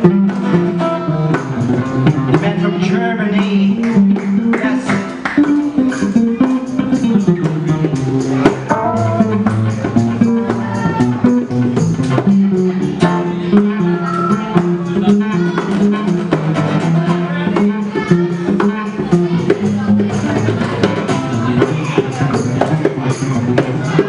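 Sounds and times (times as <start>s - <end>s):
electric guitar: 0.0s - 24.0s
strummed acoustic guitar: 0.0s - 24.0s.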